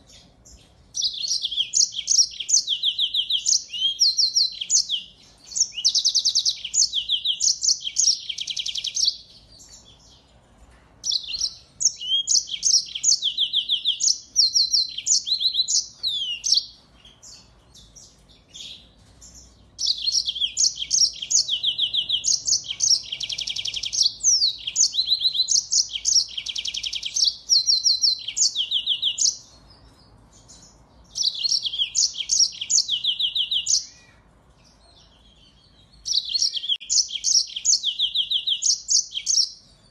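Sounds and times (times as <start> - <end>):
finches singing: 0.0 - 10.3, 11.0 - 39.9.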